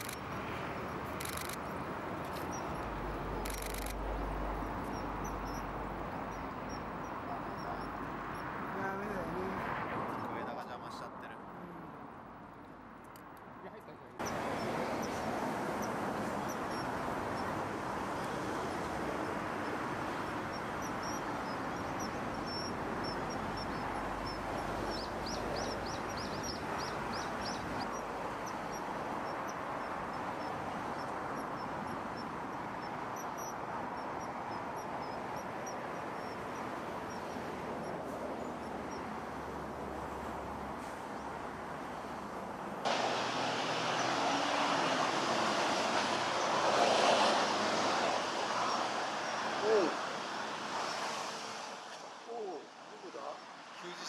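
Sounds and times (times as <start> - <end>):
steady rushing background noise: 0.0 - 11.0, 13.8 - 54.0.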